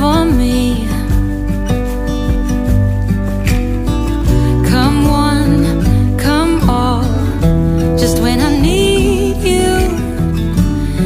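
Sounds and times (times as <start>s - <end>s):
pop song with singing: 0.0s - 11.0s
strummed acoustic guitar: 0.0s - 11.0s.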